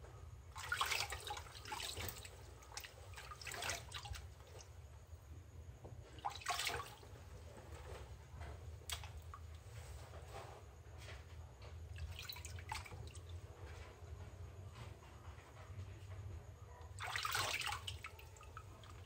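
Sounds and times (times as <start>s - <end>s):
water sloshing in a plastic basin: 0.0s - 15.8s, 16.8s - 19.0s.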